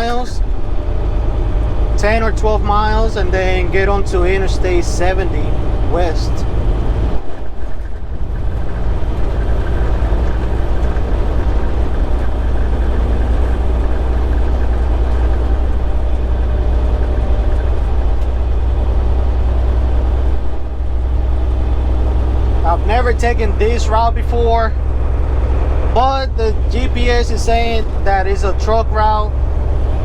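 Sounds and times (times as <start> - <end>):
road rumble: 0.0 - 30.0
truck engine drone: 0.0 - 30.0.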